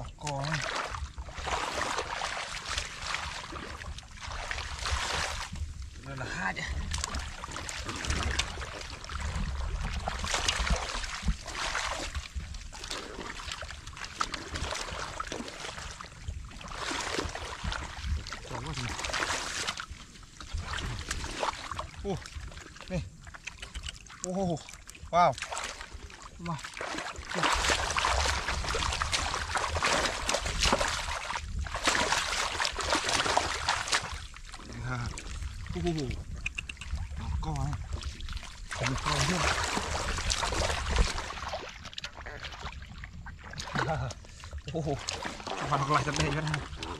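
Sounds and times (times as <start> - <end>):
hands splashing in muddy water: 0.0 - 5.6, 6.7 - 46.9.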